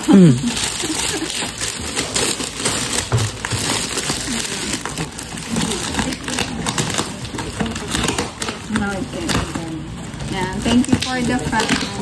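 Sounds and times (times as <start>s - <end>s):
foil gift wrap crinkling: 0.0s - 12.0s
cardboard box rustling: 0.5s - 12.0s.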